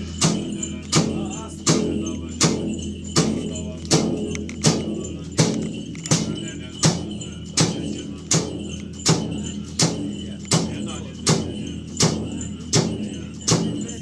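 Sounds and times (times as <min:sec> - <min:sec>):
ringing percussion strikes: 0:00.0 - 0:14.0.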